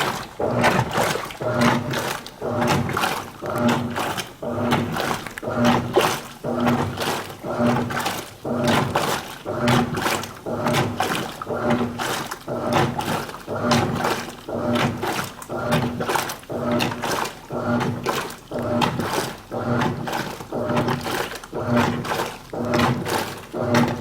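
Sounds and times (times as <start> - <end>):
washing machine motor humming: 0.0 - 24.0
water swishing in washing machine: 0.0 - 24.0.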